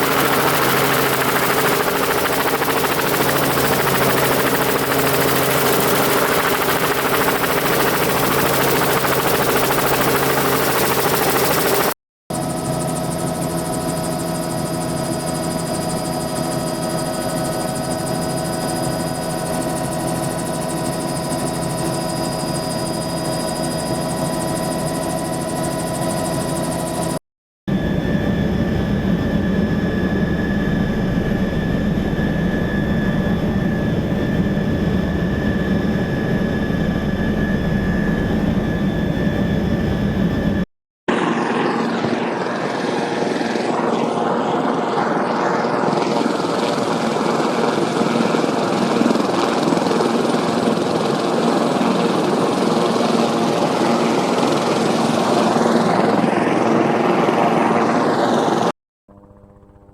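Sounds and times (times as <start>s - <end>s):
helicopter turbine whine and rotor: 0.0s - 59.9s.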